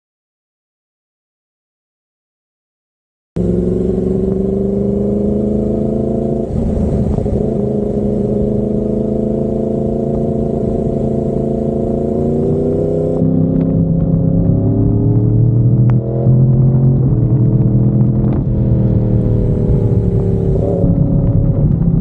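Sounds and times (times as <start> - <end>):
motorcycle engine revving: 3.4 - 22.0.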